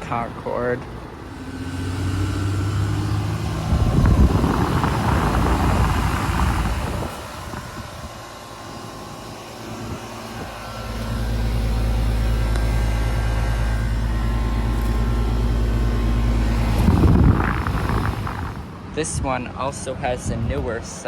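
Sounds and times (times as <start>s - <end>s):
compressor hum: 0.0s - 21.0s
condenser fan air rush: 0.0s - 21.0s
deeper steady hum: 0.0s - 21.0s.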